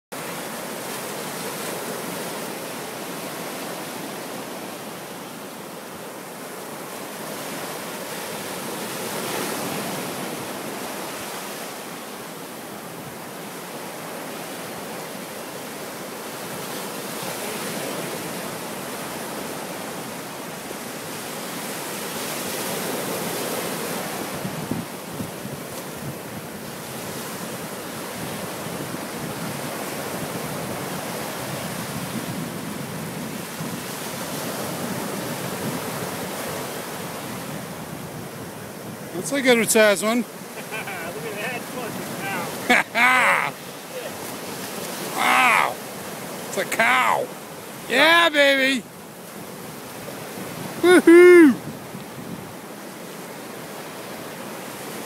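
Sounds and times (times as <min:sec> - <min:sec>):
ocean surf breaking: 0:00.2 - 0:55.0.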